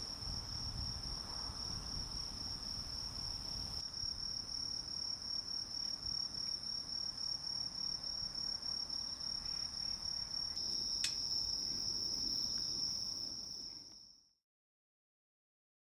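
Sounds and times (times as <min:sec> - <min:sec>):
crickets trilling: 0:00.0 - 0:14.2.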